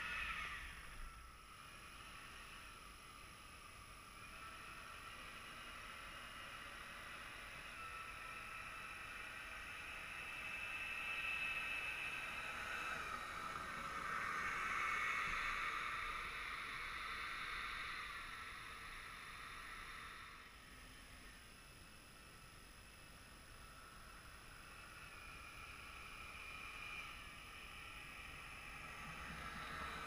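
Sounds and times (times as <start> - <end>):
model jet fan motor whining: 0.0 - 30.0.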